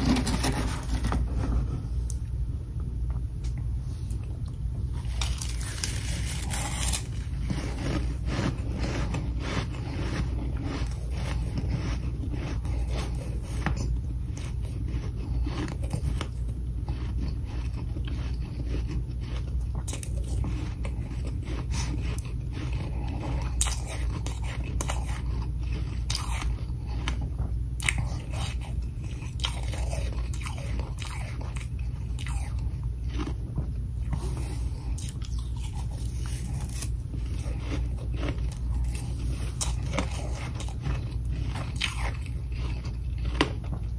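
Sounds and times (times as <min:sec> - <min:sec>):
chewing and crunching frost: 0:00.0 - 0:02.4, 0:03.4 - 0:43.9.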